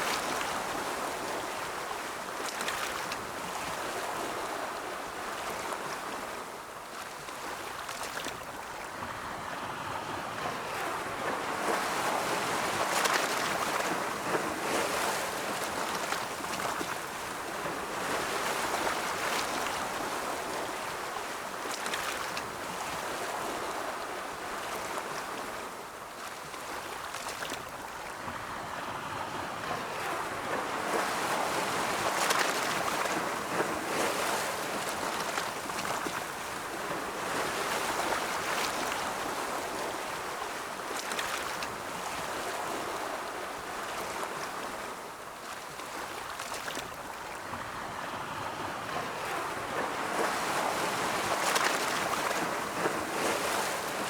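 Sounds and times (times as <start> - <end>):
ocean waves rolling in: 0.0 - 54.0.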